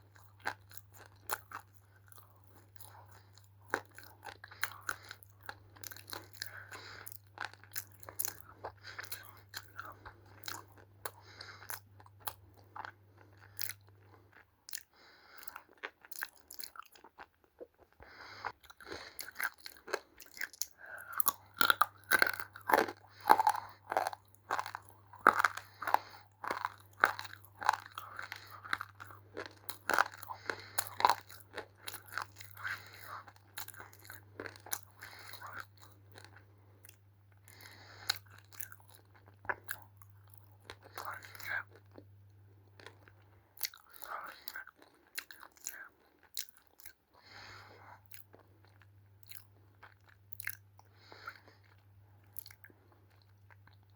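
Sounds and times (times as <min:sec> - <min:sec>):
clay being chewed with crunches: 0:00.0 - 0:53.9
faint low hum: 0:00.0 - 0:53.9.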